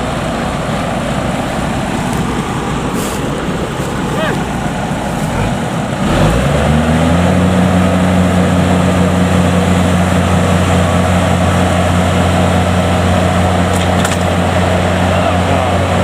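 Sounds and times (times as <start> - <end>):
harvester diesel engine revving: 0.0 - 16.0.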